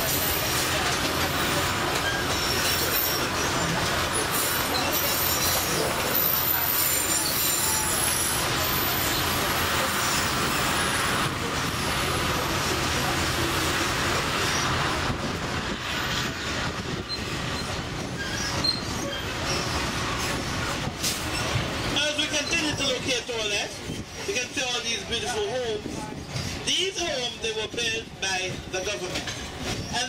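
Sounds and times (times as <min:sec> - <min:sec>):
train wheels rumbling and rattling: 0:00.0 - 0:30.0.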